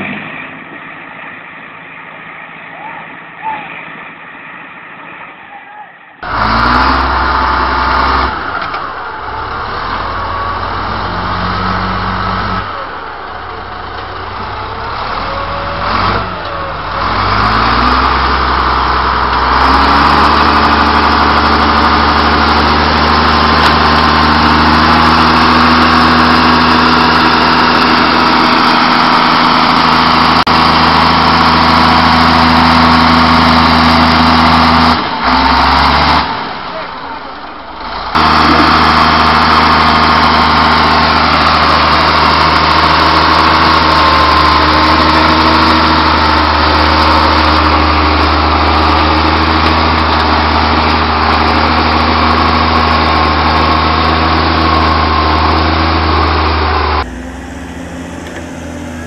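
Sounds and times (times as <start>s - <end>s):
bulldozer diesel engine running: 6.2s - 59.0s.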